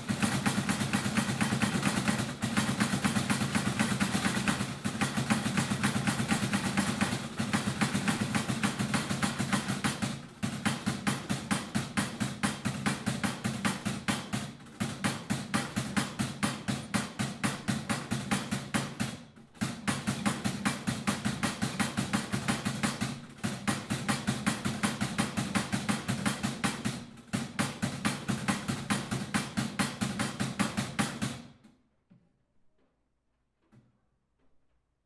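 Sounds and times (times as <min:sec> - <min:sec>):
wooden clapper knocking rapidly: 0:00.0 - 0:31.5.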